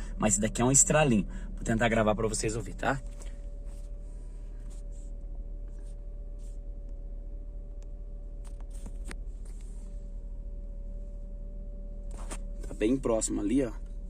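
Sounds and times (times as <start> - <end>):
faint steady tone: 0.0 - 14.0
steady low hum: 0.0 - 14.0.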